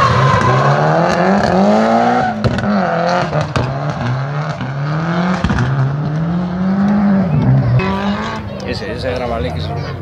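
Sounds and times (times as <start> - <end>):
car engine revving hard: 0.0 - 8.6.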